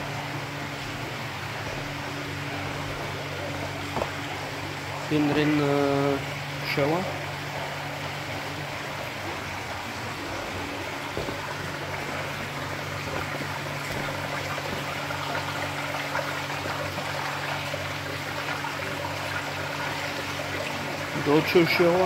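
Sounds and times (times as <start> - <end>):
low hum of pumps: 0.0 - 22.0
water splashing into tanks: 0.0 - 22.0.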